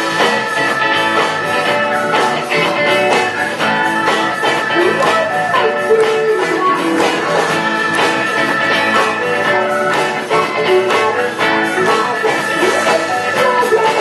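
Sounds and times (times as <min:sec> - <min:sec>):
live band playing pop-rock: 0:00.0 - 0:14.0.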